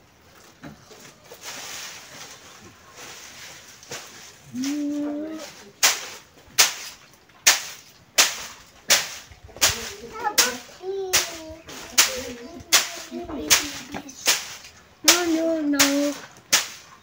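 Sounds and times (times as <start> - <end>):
stick whacking dried plants: 3.0 - 17.0.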